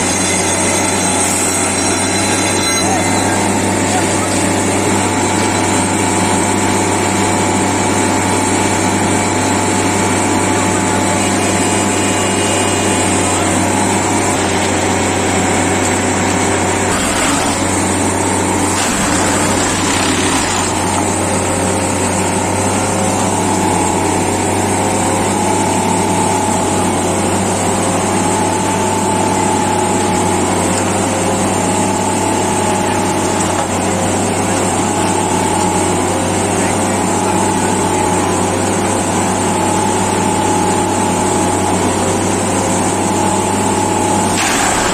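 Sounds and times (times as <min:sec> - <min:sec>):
track tamping machine droning: 0:00.0 - 0:44.9.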